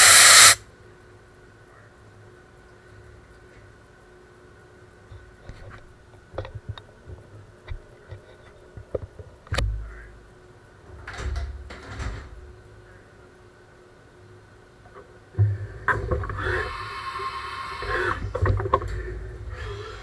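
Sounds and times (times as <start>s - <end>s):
faint machine hum: 0.0s - 20.0s.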